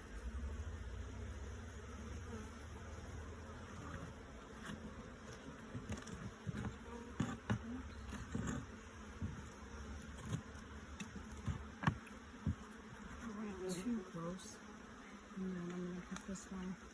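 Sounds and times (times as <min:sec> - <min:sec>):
bees buzzing: 0:00.0 - 0:16.9.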